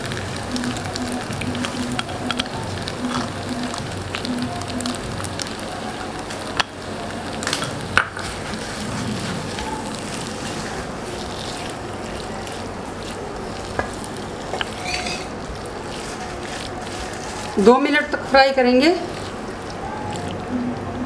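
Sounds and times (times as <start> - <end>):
pasta sizzling in a pan: 0.0 - 20.5.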